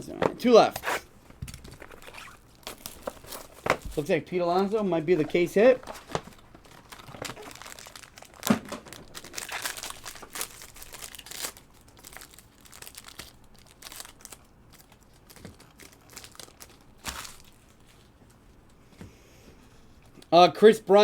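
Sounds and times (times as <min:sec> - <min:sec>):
packaging crinkling: 0:01.3 - 0:18.2.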